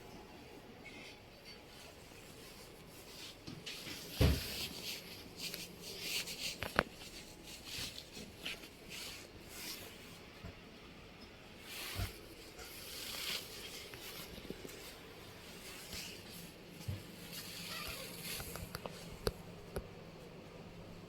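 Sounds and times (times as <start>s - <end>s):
rustling and scraping: 0.8s - 10.5s, 11.6s - 19.9s.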